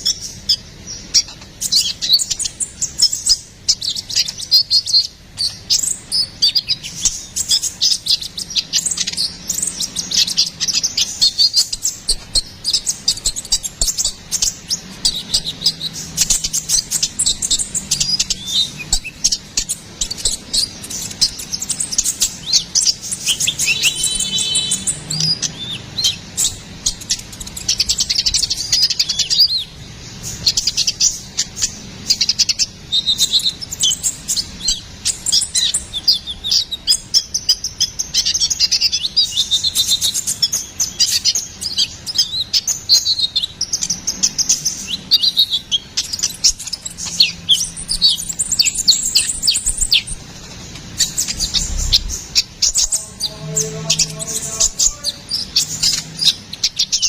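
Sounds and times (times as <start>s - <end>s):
sunbird singing chirps and trills: 0.0s - 57.0s.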